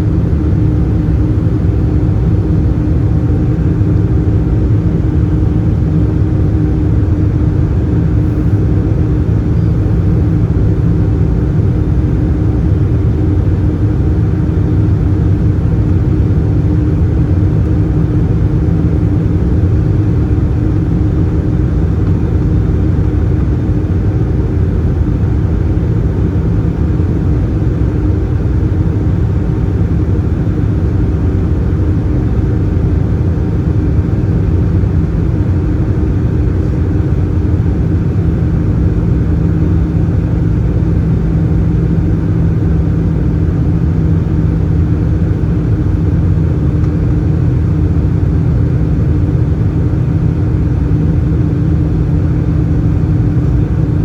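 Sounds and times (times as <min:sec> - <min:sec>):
airplane engines droning: 0:00.0 - 0:54.0.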